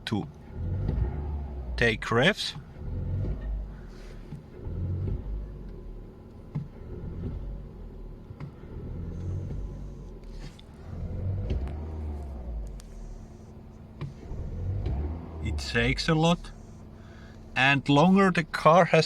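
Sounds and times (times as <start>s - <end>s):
car engine idling rough: 0.0s - 19.0s.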